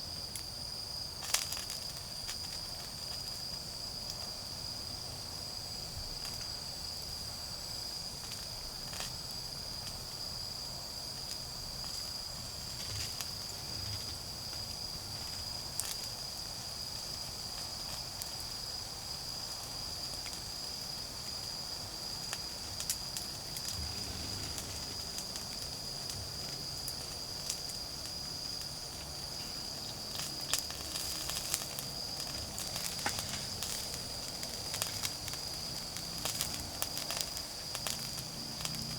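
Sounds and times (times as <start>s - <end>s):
insects chirping: 0.0s - 38.9s
wood fire crackling: 0.2s - 38.9s.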